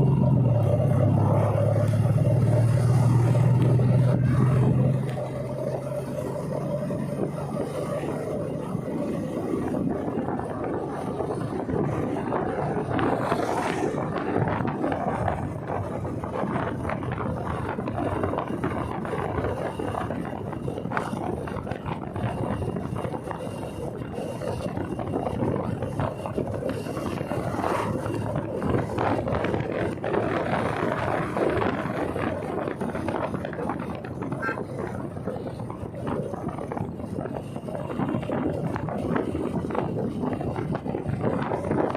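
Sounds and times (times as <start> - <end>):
motorcycle running: 0.0 - 41.9
wind on microphone: 0.0 - 41.9.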